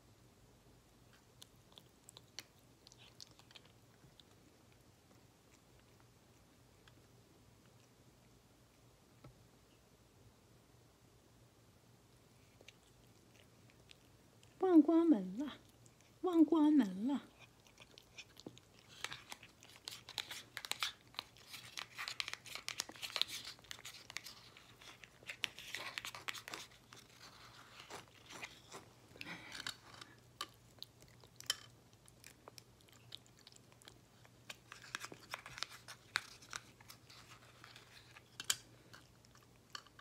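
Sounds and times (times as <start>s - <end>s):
cat chewing wet food: 1.0s - 9.3s, 12.1s - 14.6s, 15.6s - 16.2s, 17.3s - 40.0s.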